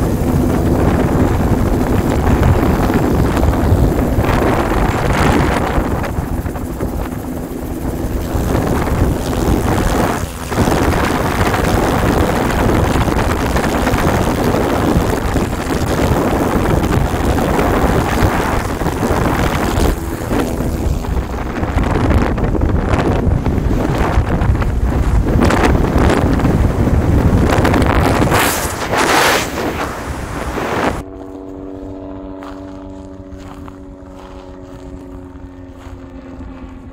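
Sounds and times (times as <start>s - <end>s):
freefall wind buffeting microphone: 0.0s - 36.9s.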